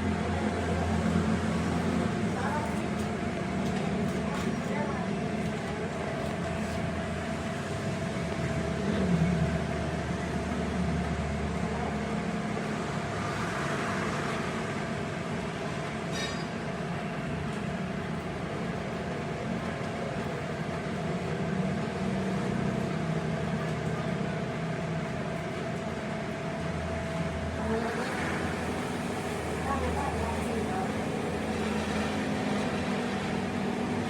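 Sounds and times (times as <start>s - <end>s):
workshop machine whining: 0.0s - 34.0s.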